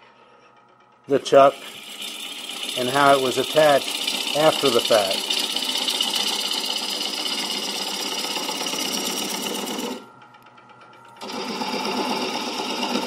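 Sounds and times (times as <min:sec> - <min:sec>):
faint lathe hum: 0:00.0 - 0:13.0
lathe gouge rasping chatter: 0:01.1 - 0:10.0, 0:11.2 - 0:13.0.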